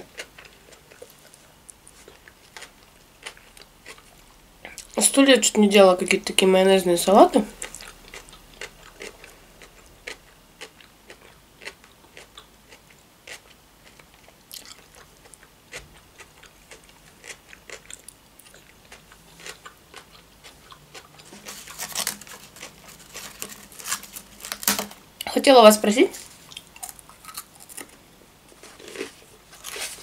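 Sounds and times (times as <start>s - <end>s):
wet chewing crunches: 0.0s - 5.1s, 7.5s - 24.8s, 26.2s - 28.0s.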